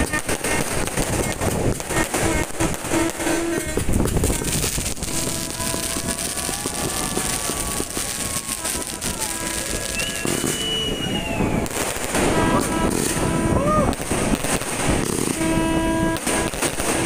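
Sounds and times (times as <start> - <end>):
fireworks popping and crackling: 0.0 - 17.0.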